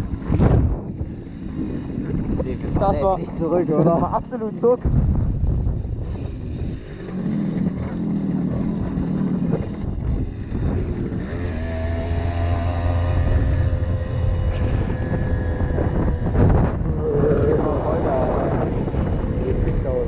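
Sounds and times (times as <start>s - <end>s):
moped engine running: 0.0s - 20.0s
wind rumble on microphone: 0.0s - 20.0s.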